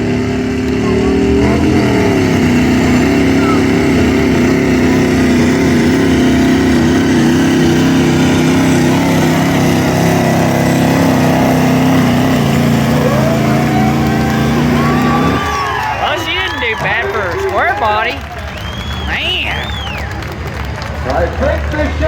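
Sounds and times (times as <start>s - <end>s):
pulling engine under heavy load: 0.0s - 22.0s.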